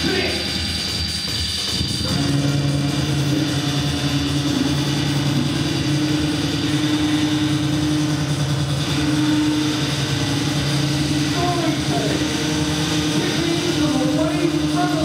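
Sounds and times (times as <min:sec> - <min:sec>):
bass and synthesizer drone: 0:00.0 - 0:15.0.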